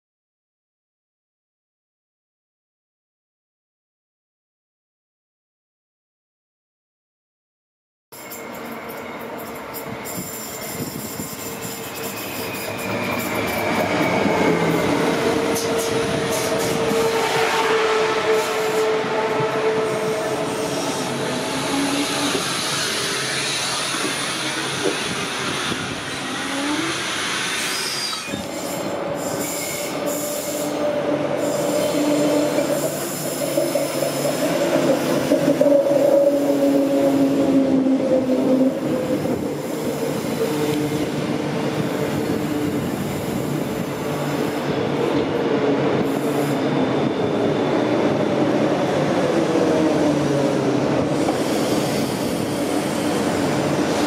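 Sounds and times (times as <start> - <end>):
train wheels squealing whine: 8.1 - 54.0
train rumble: 8.2 - 54.0.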